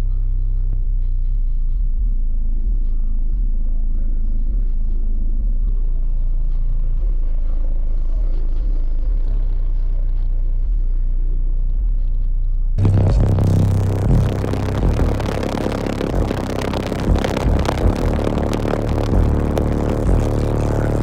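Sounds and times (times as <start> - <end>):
deep bass music from car subwoofers: 0.0 - 21.0.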